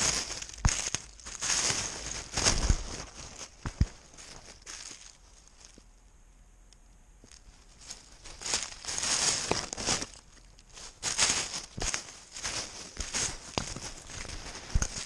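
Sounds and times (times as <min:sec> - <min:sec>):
rustling and scratching on camera: 0:00.0 - 0:05.8, 0:07.3 - 0:15.0.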